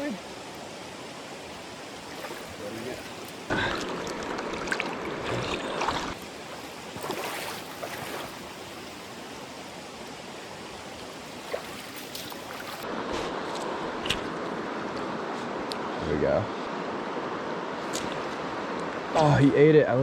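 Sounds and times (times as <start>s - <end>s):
stream flowing: 0.0s - 19.6s.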